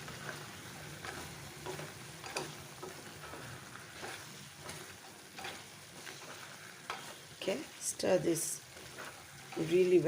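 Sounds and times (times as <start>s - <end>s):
chicken sizzling in a pan: 0.0s - 10.0s
spoon scraping a pan: 0.1s - 10.0s.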